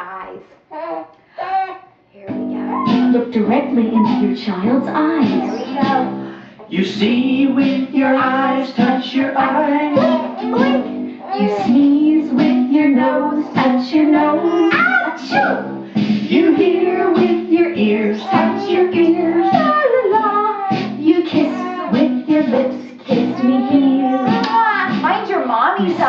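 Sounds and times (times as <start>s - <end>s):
guitar accompaniment: 2.3s - 26.0s
woman and children singing: 2.6s - 26.0s.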